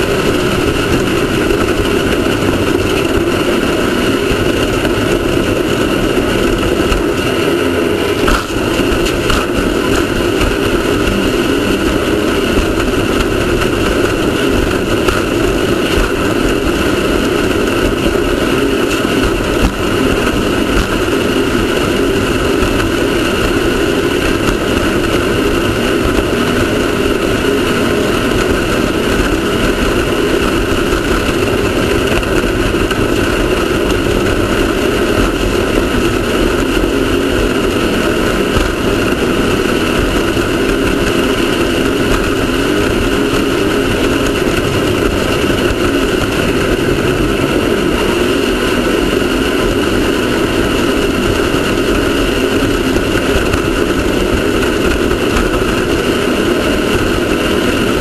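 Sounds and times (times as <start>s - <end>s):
race car engine drone: 0.0s - 58.0s.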